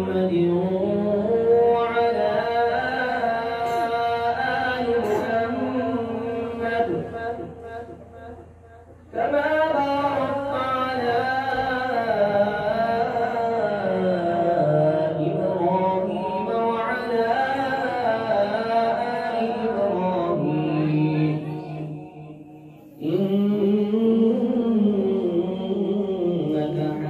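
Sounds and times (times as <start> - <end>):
man chanting recitation: 0.0 - 27.0.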